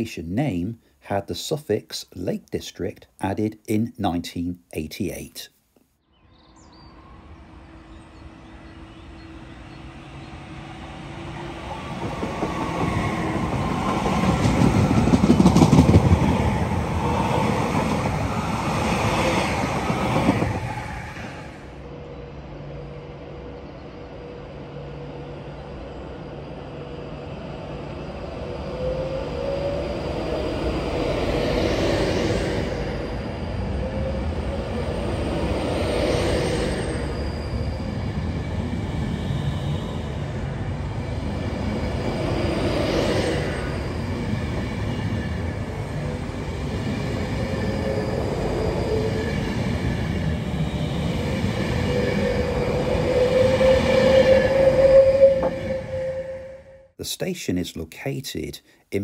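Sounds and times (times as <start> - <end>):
electric train hum and whine: 6.1 - 57.0
train rumbling past: 6.2 - 57.0.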